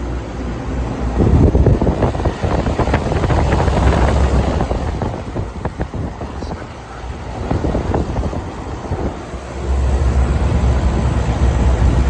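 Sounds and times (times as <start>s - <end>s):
air conditioner hum: 0.0s - 12.0s
fan air buffeting microphone: 0.0s - 12.0s.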